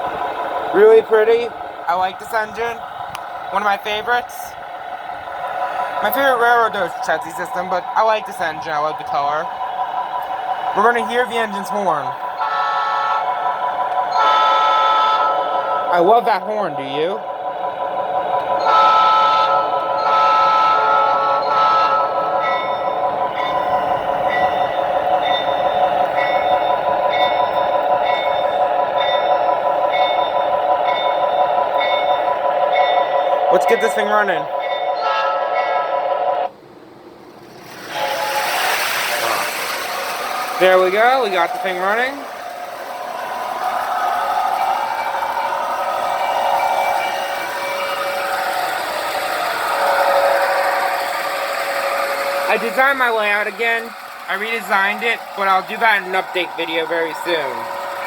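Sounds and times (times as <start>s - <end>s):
locomotive bell ringing: 0.0s - 36.4s, 37.9s - 58.0s
diesel locomotive engine idling: 0.0s - 58.0s
wheels rolling on rails: 0.0s - 58.0s.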